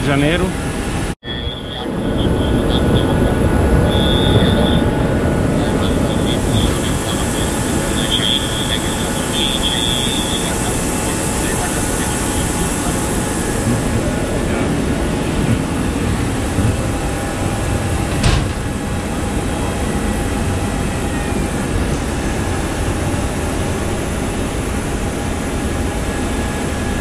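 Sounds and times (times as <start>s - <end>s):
aircraft machinery drone: 0.0s - 27.0s
faint steady whine: 0.1s - 27.0s.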